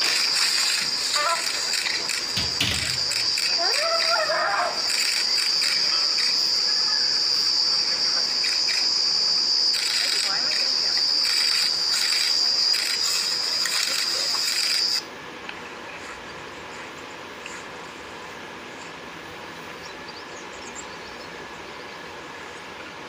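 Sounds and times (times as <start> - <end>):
insects buzzing: 0.0 - 23.0.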